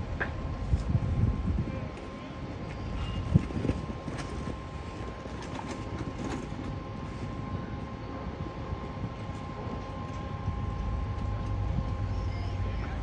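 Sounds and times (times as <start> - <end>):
machine hum with high whine: 0.0 - 13.0.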